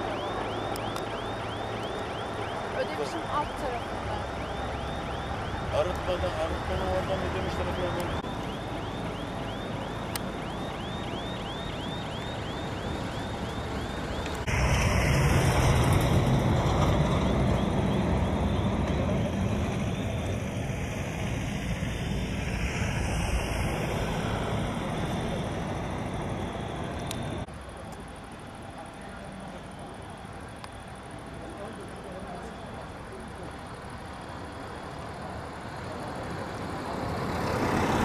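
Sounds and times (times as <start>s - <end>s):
vehicle rumbling on the move: 0.0s - 38.0s.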